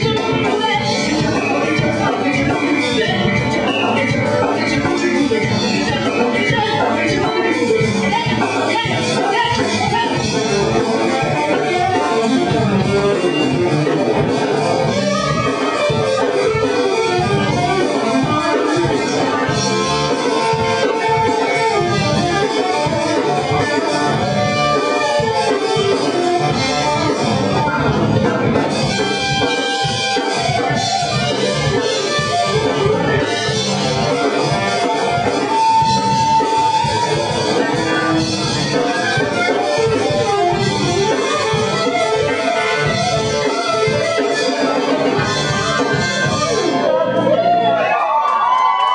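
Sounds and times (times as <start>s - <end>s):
swing band with horns: 0.0s - 48.9s.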